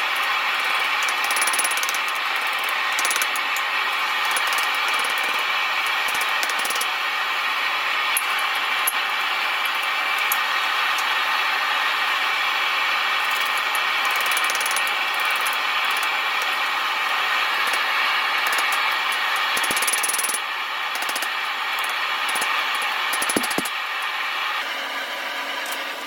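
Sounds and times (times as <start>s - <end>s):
forge burner roaring: 0.0s - 26.0s.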